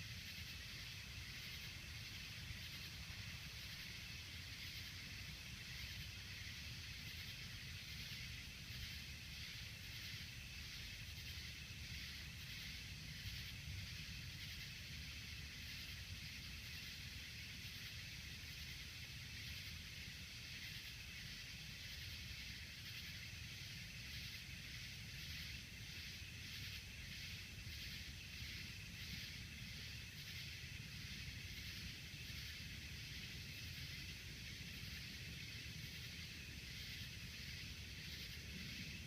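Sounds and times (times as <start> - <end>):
insect chorus trilling: 0.0 - 39.0.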